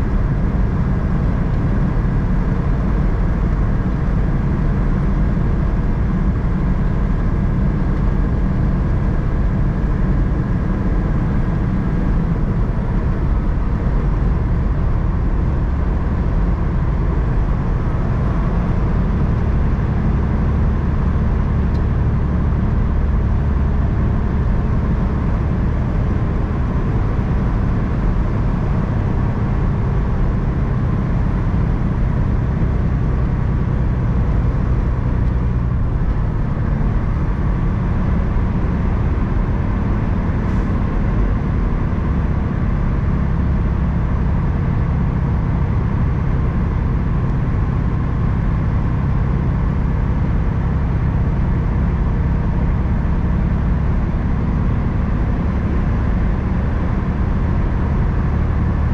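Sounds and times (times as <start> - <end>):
truck engine drone: 0.0 - 58.9
tyres on the road: 0.0 - 58.9.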